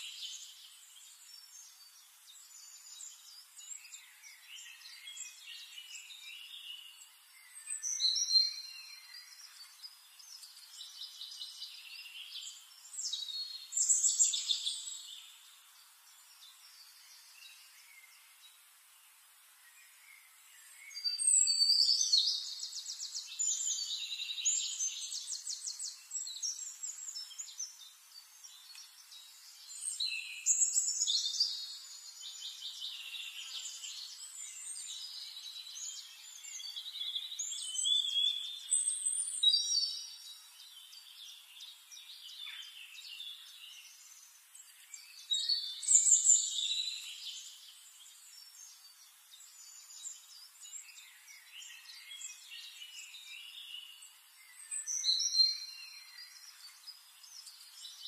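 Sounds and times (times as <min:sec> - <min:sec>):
bird trills and chirps: 0:00.0 - 0:18.4, 0:19.8 - 0:58.0.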